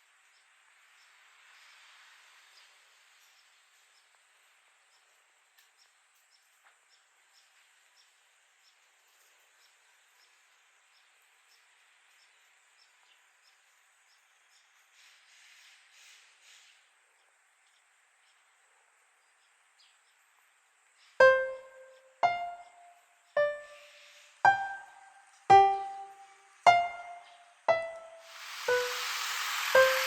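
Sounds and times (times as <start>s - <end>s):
insect chirping: 0.0s - 15.6s, 16.2s - 30.0s
soft steady hiss: 0.0s - 30.0s.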